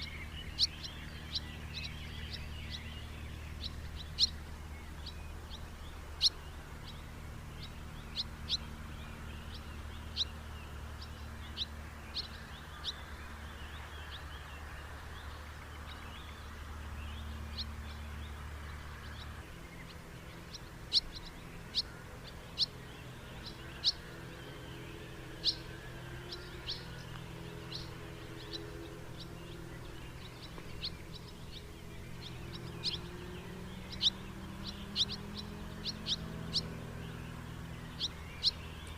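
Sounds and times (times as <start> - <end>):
bird chirps: 0.0 - 38.9
low background hum: 0.0 - 38.9.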